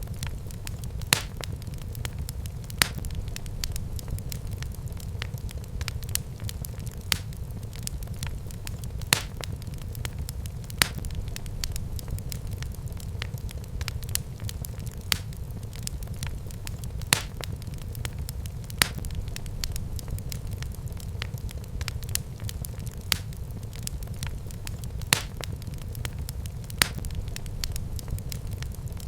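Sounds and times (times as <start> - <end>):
fire crackles and pops: 0.0 - 29.0
low rumble of flames: 0.0 - 29.0.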